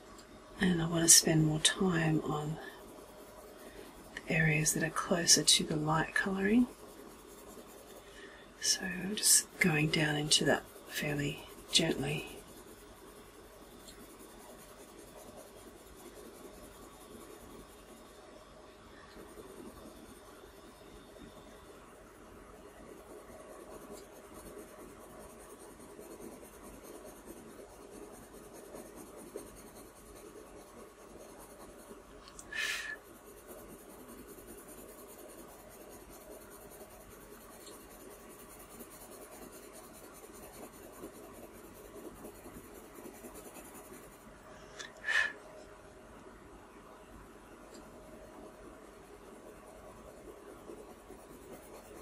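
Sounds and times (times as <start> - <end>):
pencil scratching on paper: 0.6 - 18.3, 18.9 - 21.8, 22.5 - 44.4, 48.2 - 52.0.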